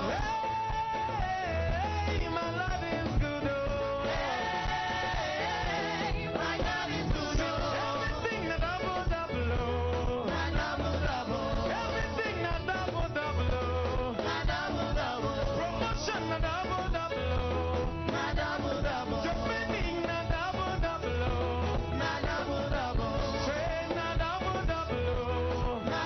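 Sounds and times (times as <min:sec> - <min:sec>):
gospel band playing: 0:00.0 - 0:26.0
steady bass line: 0:00.0 - 0:26.0
voices singing: 0:00.0 - 0:26.0.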